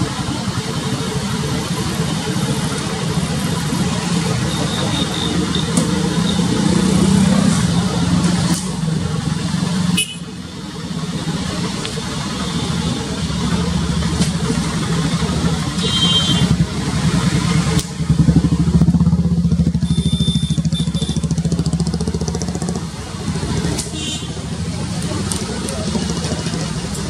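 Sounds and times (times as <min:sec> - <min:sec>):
auto-rickshaw engines: 0:00.0 - 0:27.0
diesel bus engine: 0:00.0 - 0:27.0.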